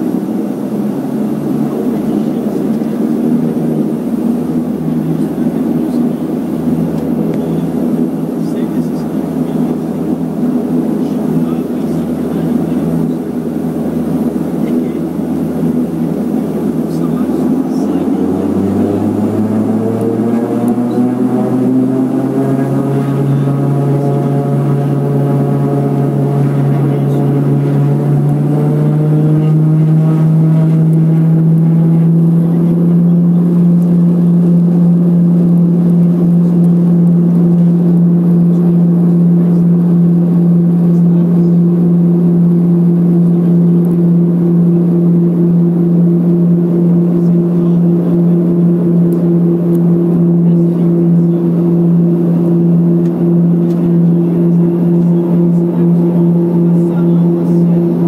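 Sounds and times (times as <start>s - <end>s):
turboprop engine and propeller drone: 0.0s - 58.0s.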